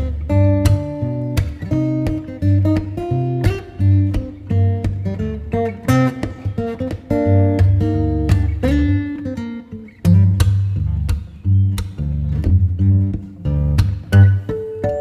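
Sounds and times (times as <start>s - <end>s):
guitar plucking and strumming: 0.0s - 15.0s.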